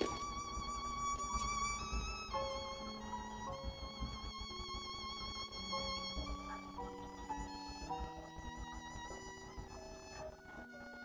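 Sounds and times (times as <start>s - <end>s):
slow melody of held notes: 0.0s - 11.0s.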